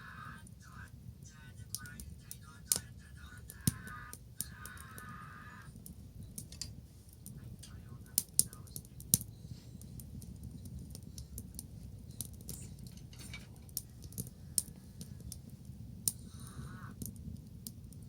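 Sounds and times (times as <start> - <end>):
bonfire crackling: 0.0 - 18.0
low steady rumble: 0.0 - 18.0
sharp fire pops: 0.4 - 18.0.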